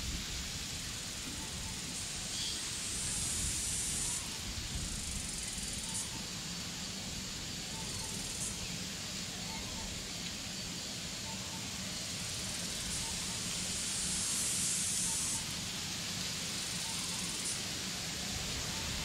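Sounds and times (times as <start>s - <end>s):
breeze through grass and trees: 0.0s - 19.0s
high hiss: 0.0s - 19.0s.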